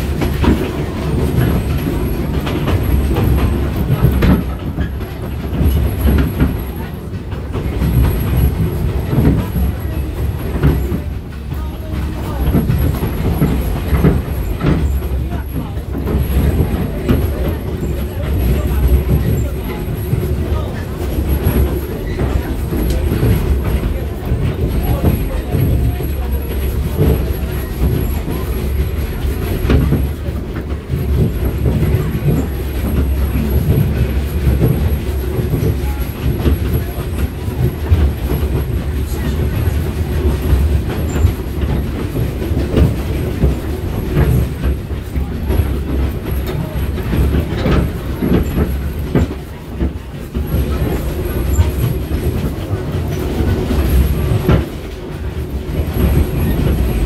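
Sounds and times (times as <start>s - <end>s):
train car rumbling and rattling: 0.0s - 57.0s
wheels clacking on rails: 0.0s - 57.0s.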